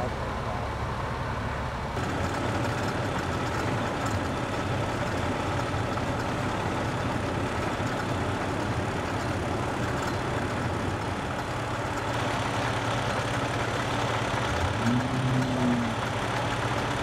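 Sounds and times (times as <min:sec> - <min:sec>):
fire engines idling: 0:00.0 - 0:17.0.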